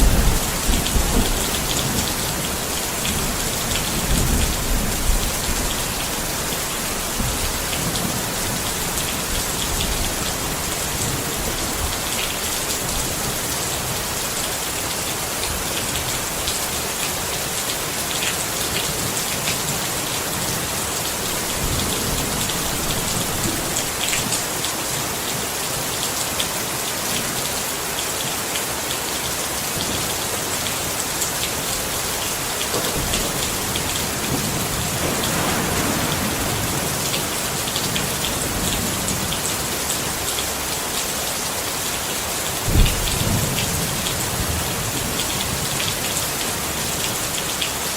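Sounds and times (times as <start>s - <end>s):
rain falling on a tent: 0.0s - 47.9s.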